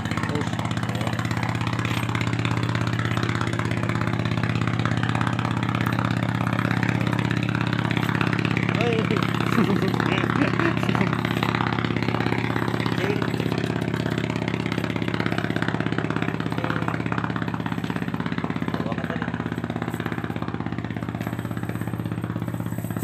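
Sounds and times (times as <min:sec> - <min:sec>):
small engine idling: 0:00.0 - 0:23.0.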